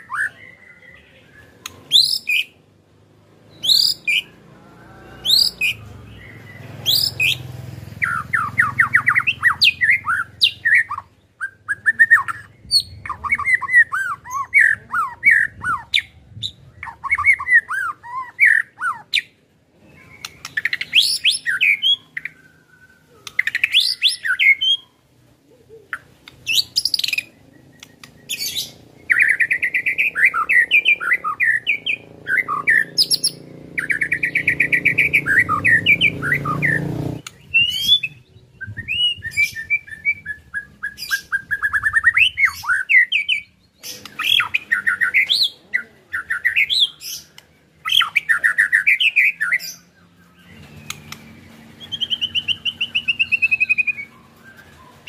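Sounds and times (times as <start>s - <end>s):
bird singing whistled phrases and trills: 0.0s - 2.6s, 3.5s - 4.3s, 4.9s - 55.0s.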